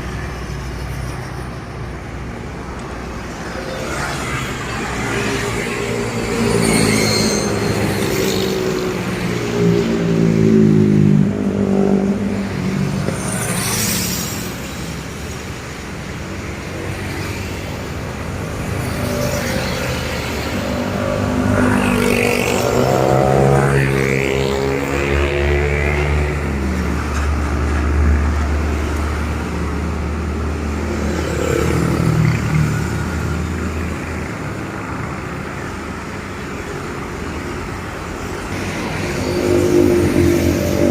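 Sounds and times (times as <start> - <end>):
heavy diesel trucks passing: 0.0 - 40.9.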